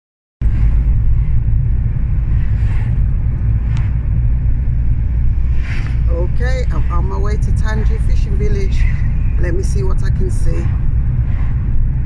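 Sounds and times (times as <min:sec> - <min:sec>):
car engine and road rumble: 0:00.4 - 0:12.0.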